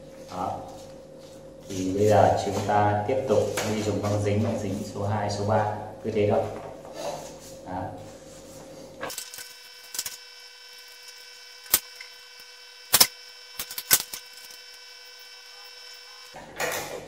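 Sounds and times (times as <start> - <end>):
faint hum of several tones: 0.0 - 17.0.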